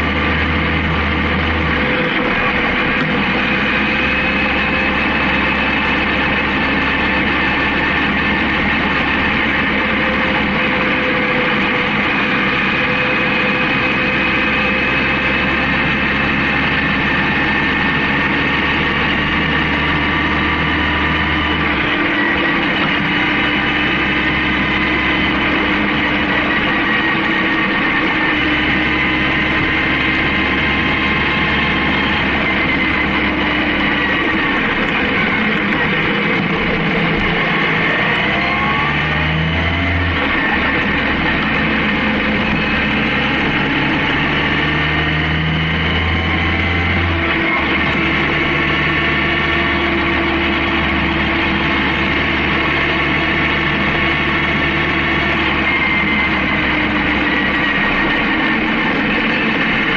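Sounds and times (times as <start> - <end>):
motorcycle engine running: 0.0 - 39.2, 39.9 - 54.1.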